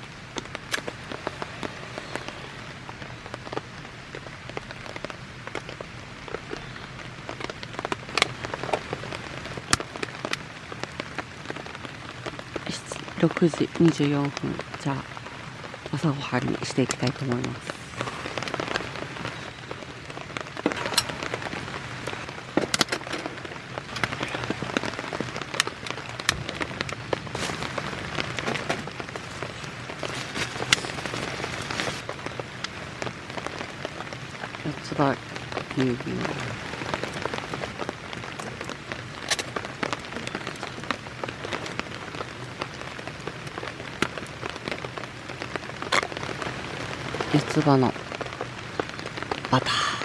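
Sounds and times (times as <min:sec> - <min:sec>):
raindrops striking close by: 0:00.0 - 0:50.0
steady rain falling: 0:00.0 - 0:50.0.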